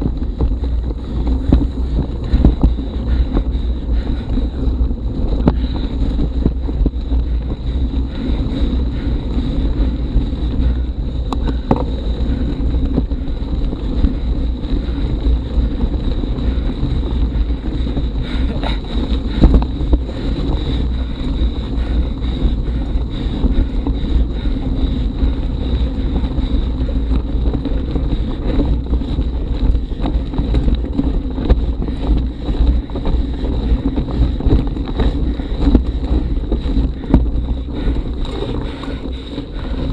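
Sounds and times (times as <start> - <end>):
bike knocks and rattles: 0.0 - 39.9
wind rumble on microphone: 0.0 - 39.9.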